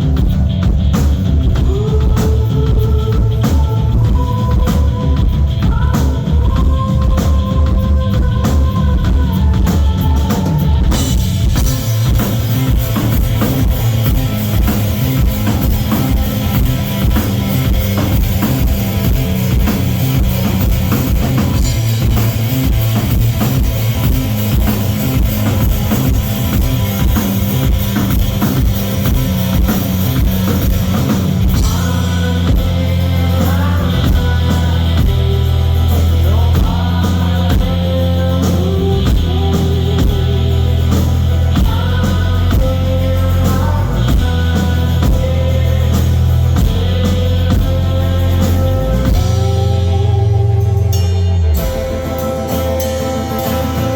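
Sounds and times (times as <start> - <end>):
drum kit beat: 0.0 - 53.9
rock band playing: 0.0 - 53.9.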